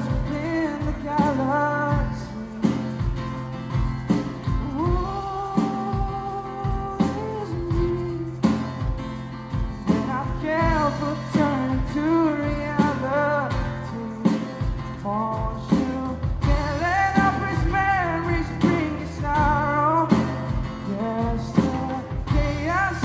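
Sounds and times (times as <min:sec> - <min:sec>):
man singing: 0:00.0 - 0:03.5, 0:04.5 - 0:09.2, 0:09.8 - 0:23.0
acoustic guitar strumming: 0:00.0 - 0:23.0
drum beat: 0:00.0 - 0:23.0.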